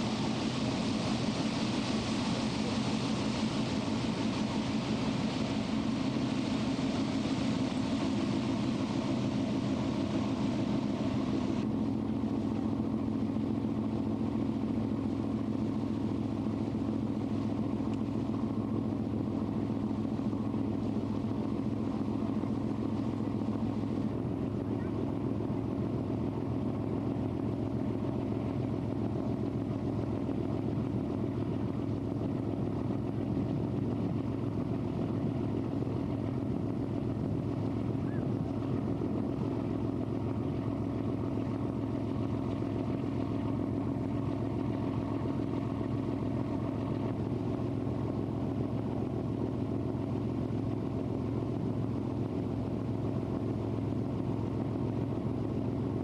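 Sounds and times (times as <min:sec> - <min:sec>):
ship engine drone: 0:00.0 - 0:56.0.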